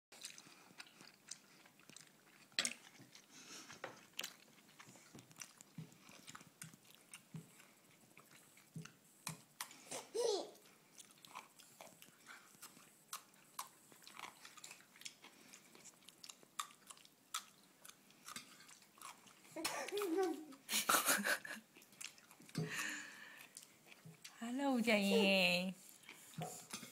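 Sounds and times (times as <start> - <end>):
child chewing cucumber: 0.1 - 24.4, 25.0 - 26.9.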